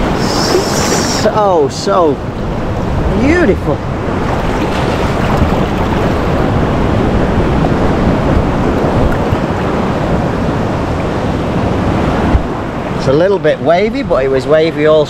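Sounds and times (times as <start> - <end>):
wind buffeting microphone: 0.0 - 13.2
ocean surf breaking: 0.0 - 14.4.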